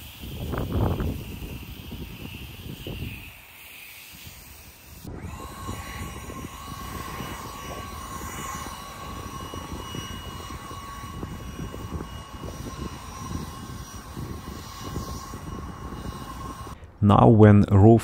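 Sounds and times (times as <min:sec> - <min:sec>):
leaf blower whining: 0:00.0 - 0:17.0.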